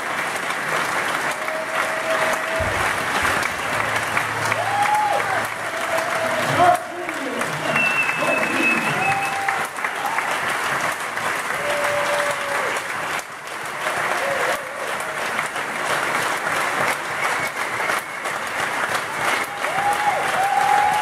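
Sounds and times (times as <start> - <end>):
audience applauding loudly: 0.0 - 21.0.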